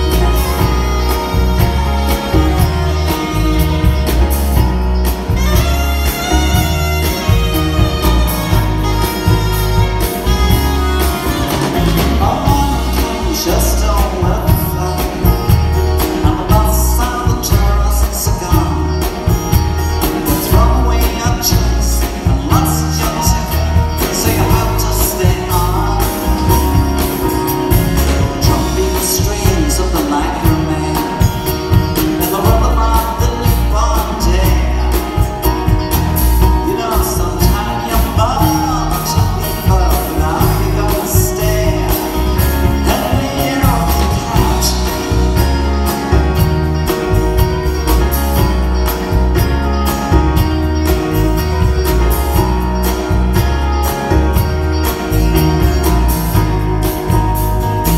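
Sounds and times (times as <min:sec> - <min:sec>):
bending melodic line: 0:00.0 - 0:57.9
live rock band playing: 0:00.0 - 0:57.9
saxophone: 0:00.0 - 0:57.9.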